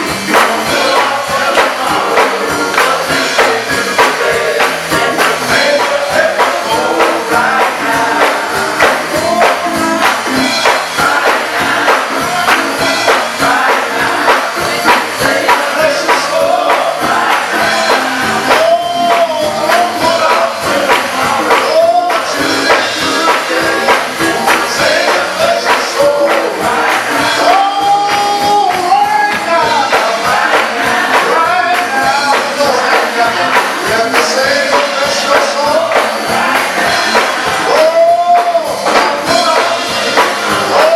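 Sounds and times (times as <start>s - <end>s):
gospel choir singing: 0.0s - 40.9s
music: 0.0s - 40.9s
tambourine shaking: 0.0s - 40.9s.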